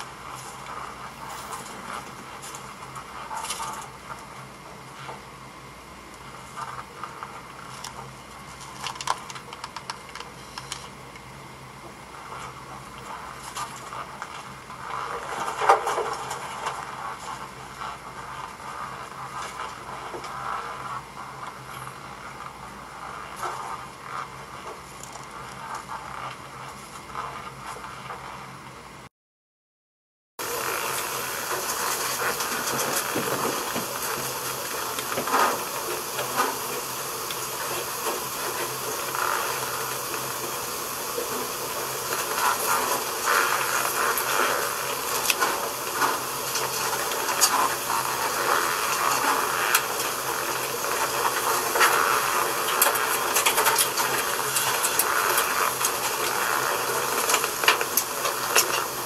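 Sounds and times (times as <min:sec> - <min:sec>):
steady camcorder hiss: 0:00.0 - 0:29.1, 0:30.4 - 0:59.0.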